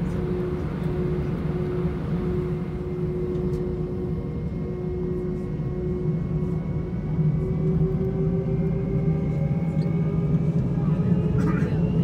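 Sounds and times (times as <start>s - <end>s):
jet engines humming and whining: 0.0s - 12.0s.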